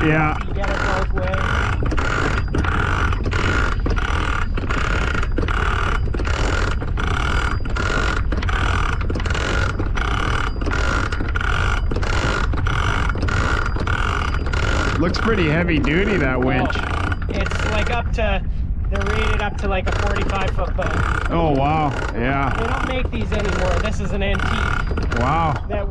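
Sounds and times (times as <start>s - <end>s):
winch ratchet clicking: 0.0s - 18.1s, 18.9s - 25.7s.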